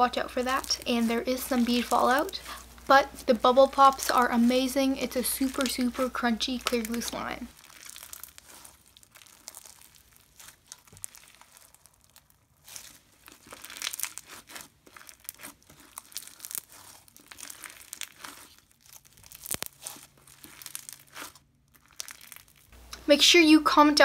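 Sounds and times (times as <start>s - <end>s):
slime crackling crunches: 0.0s - 22.8s.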